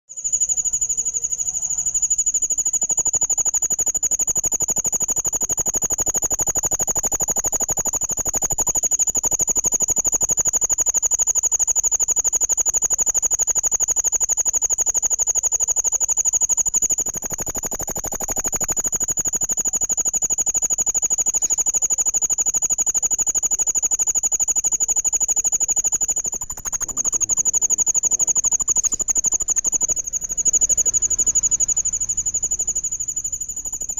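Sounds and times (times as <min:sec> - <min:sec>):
insects trilling: 0:00.1 - 0:33.9.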